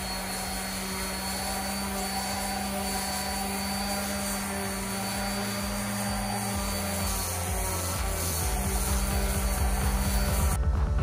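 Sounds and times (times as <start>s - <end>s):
electric sander running: 0.0s - 11.0s.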